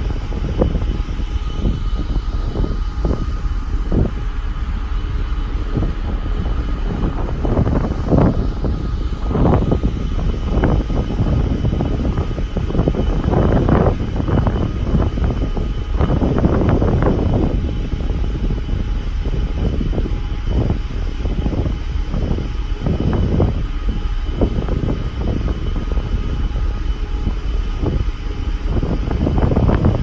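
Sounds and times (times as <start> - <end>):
faint machinery hum: 0.0 - 30.0
wind gusting over microphone: 0.0 - 30.0.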